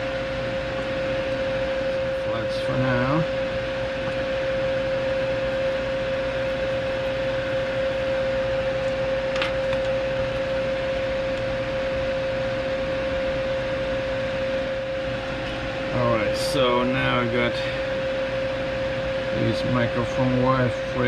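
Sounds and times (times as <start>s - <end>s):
small electric fan whirring: 0.0s - 21.0s.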